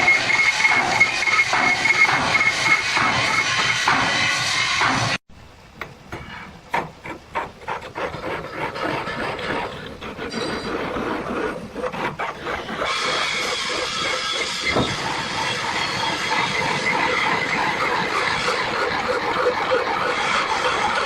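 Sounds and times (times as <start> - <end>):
scraping and rubbing: 0.0 - 5.2, 6.1 - 21.0.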